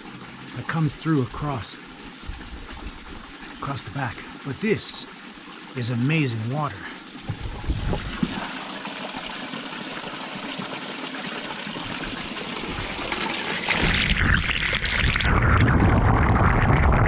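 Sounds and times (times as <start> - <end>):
fountain water trickling and splashing: 0.0 - 15.3.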